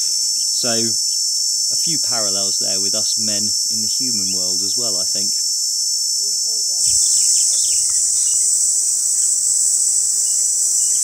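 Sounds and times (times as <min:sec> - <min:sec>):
insect chorus shrilling: 0:00.0 - 0:11.0.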